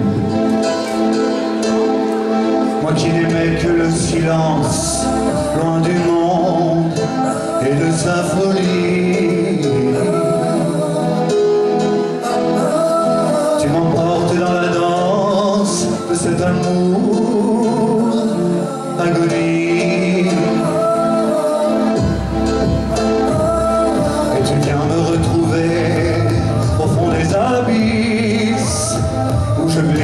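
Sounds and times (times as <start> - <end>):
instrumental pop backing: 0.0 - 30.0
man singing into a microphone: 2.6 - 30.0.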